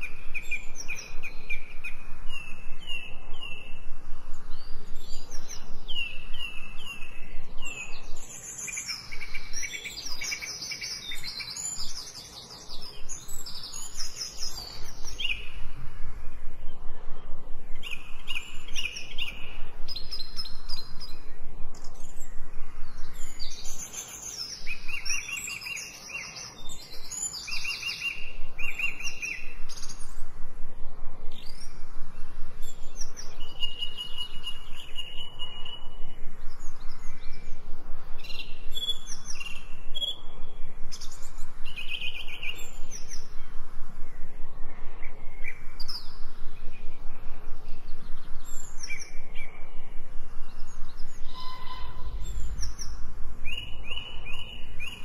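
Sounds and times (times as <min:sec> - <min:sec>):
birds singing: 0:00.0 - 0:55.0.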